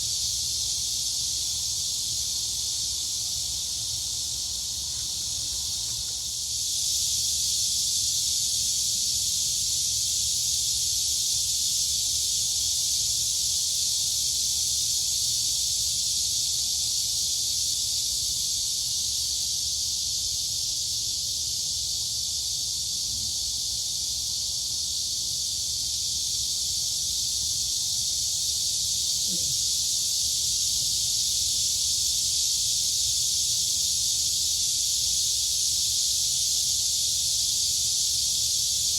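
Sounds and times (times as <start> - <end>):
crickets and cicadas buzzing: 0.0 - 38.9.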